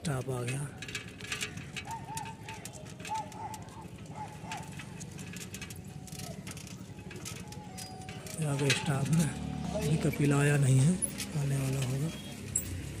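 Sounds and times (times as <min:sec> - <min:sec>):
bicycle rattling and clicking: 0:00.0 - 0:13.0.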